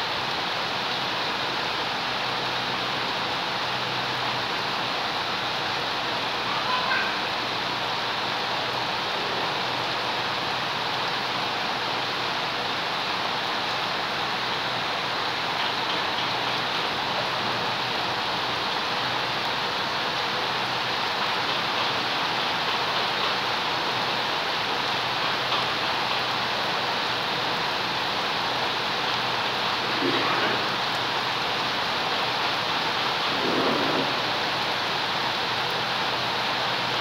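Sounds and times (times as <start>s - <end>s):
rain falling on plants: 0.0s - 37.0s.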